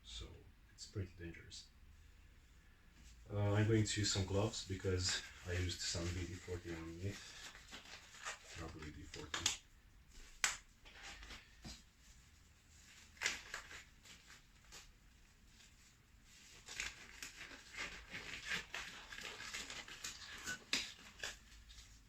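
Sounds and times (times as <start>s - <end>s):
rubber gloves rustling and snapping: 4.3s - 22.0s.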